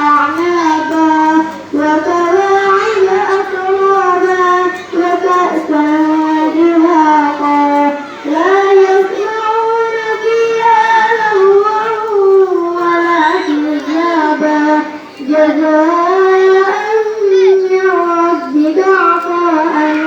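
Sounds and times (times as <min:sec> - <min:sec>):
girl reciting melodically: 0:00.0 - 0:20.0.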